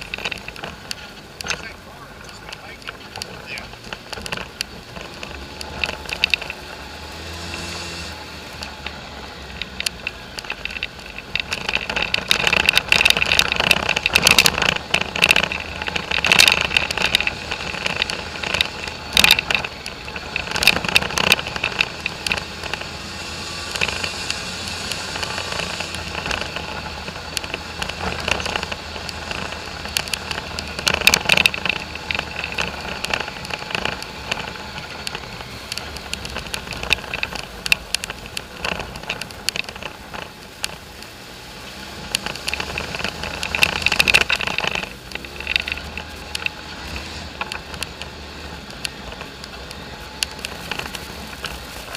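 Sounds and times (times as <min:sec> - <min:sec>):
four-wheeler engine running: 0:00.0 - 0:51.9.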